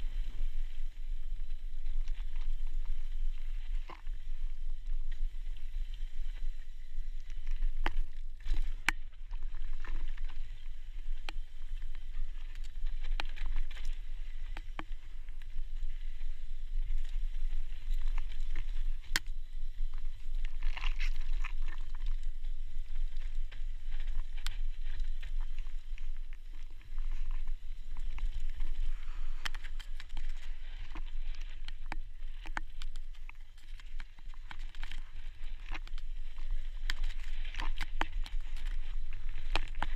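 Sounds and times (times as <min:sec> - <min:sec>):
bike tyres crunching on dirt: 0:00.0 - 0:39.9.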